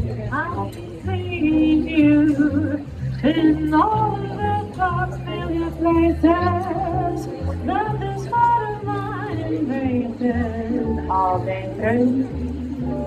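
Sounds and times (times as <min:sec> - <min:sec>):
plucked double bass: 0:00.0 - 0:13.0
woman singing: 0:00.0 - 0:13.0.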